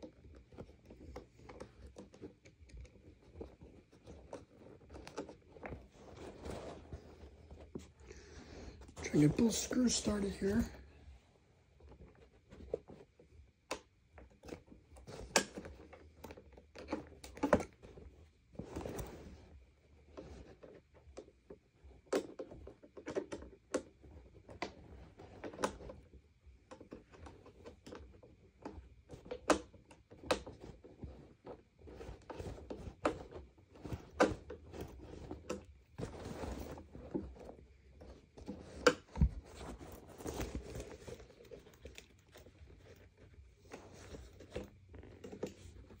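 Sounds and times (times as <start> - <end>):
rustling: 0.0 - 46.0.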